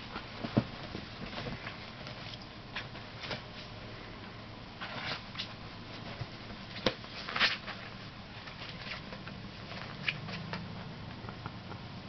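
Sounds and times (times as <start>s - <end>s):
kittens scuffling: 0.0s - 12.0s.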